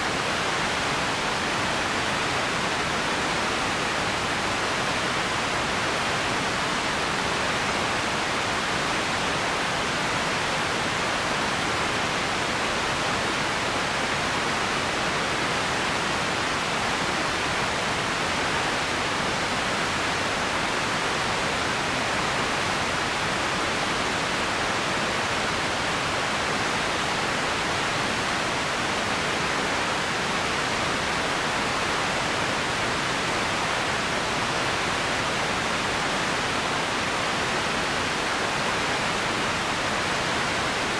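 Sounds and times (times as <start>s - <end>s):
steady ambience hiss: 0.0s - 40.9s.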